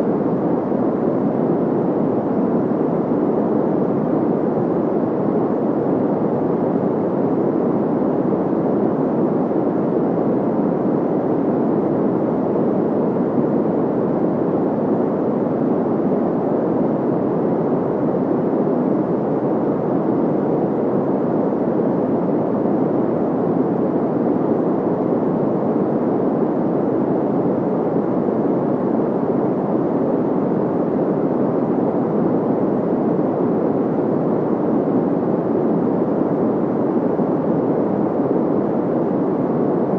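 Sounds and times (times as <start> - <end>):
muffled white noise hiss: 0.0 - 39.9.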